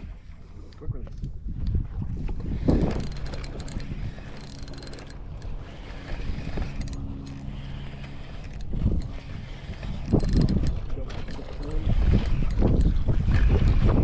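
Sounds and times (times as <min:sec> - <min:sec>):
small geared mechanism whirring: 0:00.0 - 0:14.0.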